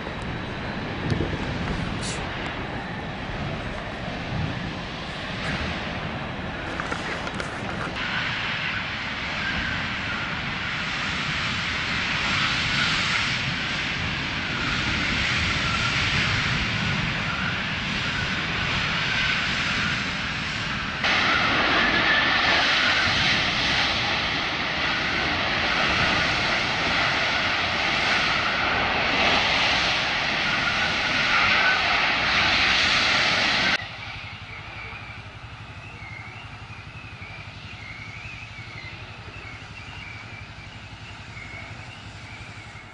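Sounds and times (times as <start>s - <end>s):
large fire roaring: 0.0s - 42.9s.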